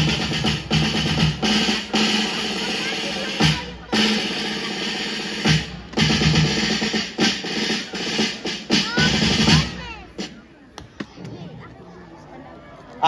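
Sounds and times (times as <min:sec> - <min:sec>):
drums playing a steady beat: 0:00.0 - 0:10.6.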